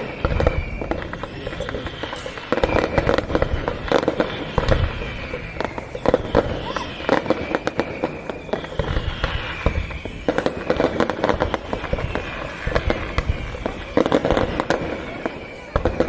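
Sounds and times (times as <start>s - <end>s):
fireworks bangs and crackling: 0.0s - 16.0s
fireworks whistles falling in pitch: 0.0s - 16.0s.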